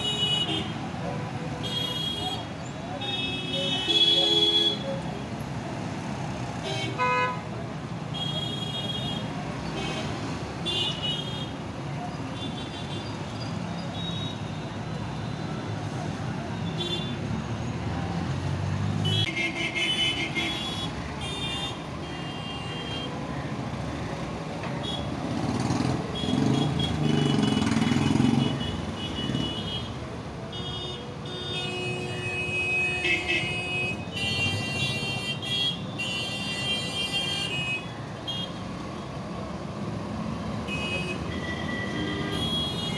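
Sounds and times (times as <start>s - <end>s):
traffic engine rumble: 0.0s - 42.9s.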